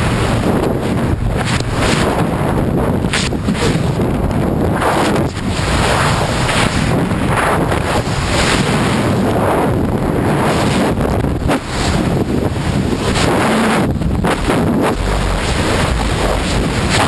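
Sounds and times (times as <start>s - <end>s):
wind blasting over microphone: 0.0s - 17.0s.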